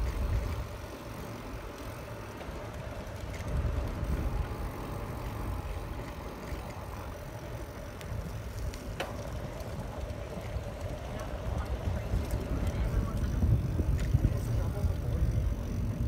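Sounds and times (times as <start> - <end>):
wind and tyre rumble: 0.0 - 16.0.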